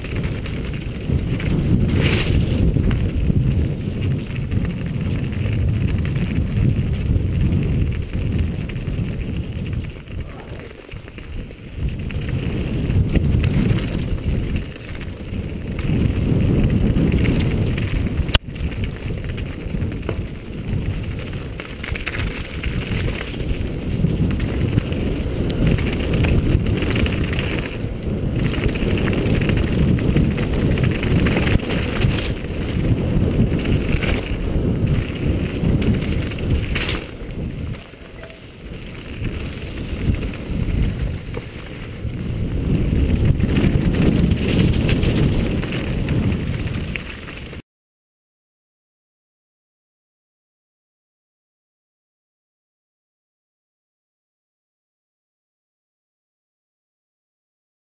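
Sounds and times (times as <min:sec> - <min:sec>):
tyres crunching over stony trail: 0:00.0 - 0:47.6
wind buffeting microphone: 0:00.0 - 0:47.6.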